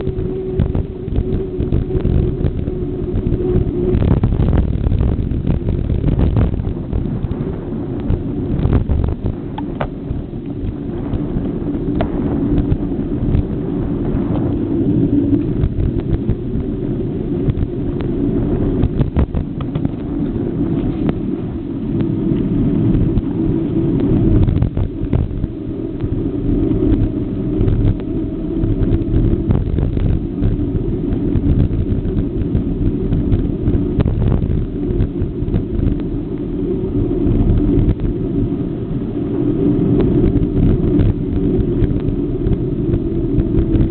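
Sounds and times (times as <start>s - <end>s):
road noise: 0.0s - 43.9s
wind buffeting microphone: 0.0s - 43.9s.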